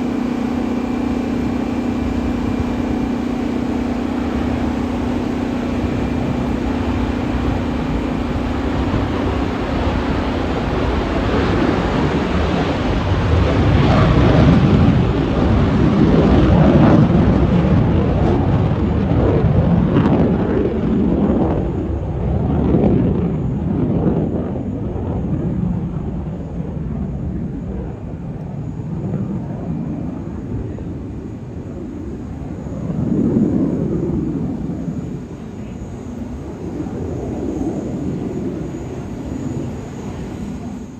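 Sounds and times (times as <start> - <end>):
jet engines roaring at takeoff: 0.0 - 40.9.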